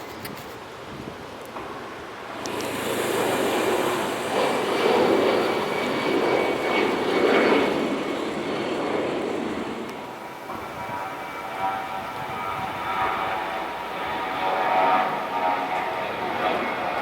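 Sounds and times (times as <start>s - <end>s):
jet engines rumbling: 1.2s - 17.0s
faint engine whine: 1.4s - 17.0s.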